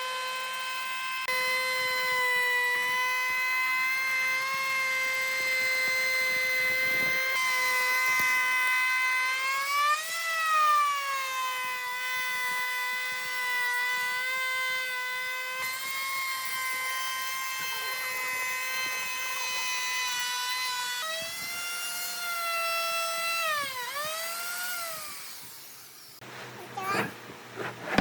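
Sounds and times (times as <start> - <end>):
power tool motor whining: 0.0 - 28.0.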